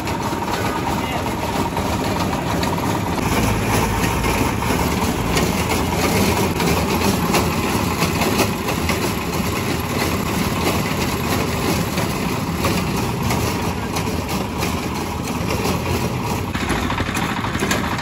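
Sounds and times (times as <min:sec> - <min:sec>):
grinding machine humming and rasping: 0:00.0 - 0:18.0.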